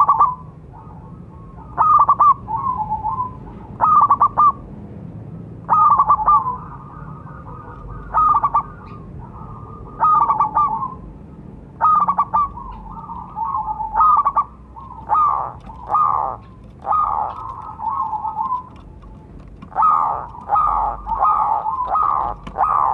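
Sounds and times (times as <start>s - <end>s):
dove cooing trills: 0.0s - 4.6s, 5.7s - 22.9s.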